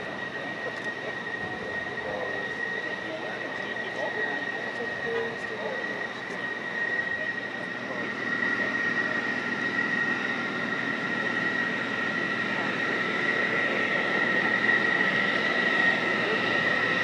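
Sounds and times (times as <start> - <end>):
jet engines idling: 0.0 - 17.0.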